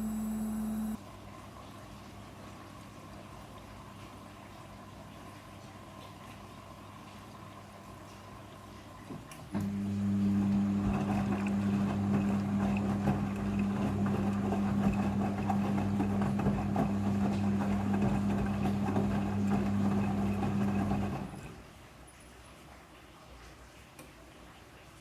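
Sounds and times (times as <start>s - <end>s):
washing machine hum: 0.0s - 22.0s.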